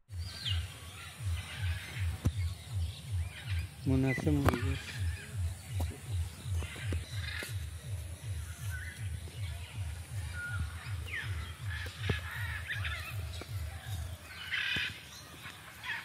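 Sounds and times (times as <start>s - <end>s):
low even throb: 0.1s - 15.8s
birds chirping and whistling: 0.1s - 16.0s.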